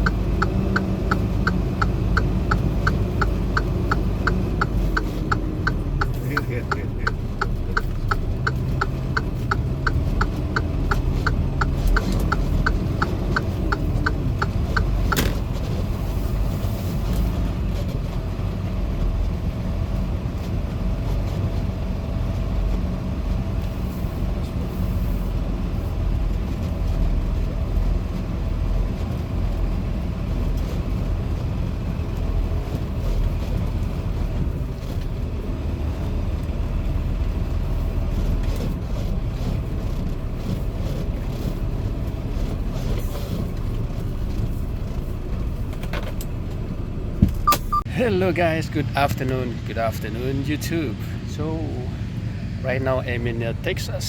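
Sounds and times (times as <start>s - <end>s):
turn signal ticking: 0.0s - 51.9s
truck engine running: 0.0s - 54.0s.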